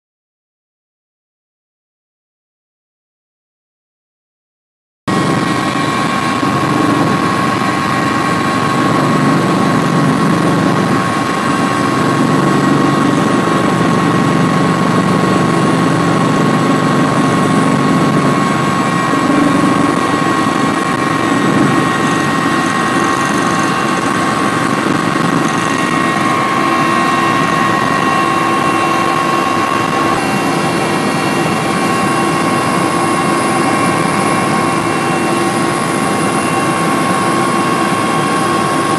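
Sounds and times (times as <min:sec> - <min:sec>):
aircraft engine drone: 0:05.1 - 0:38.9.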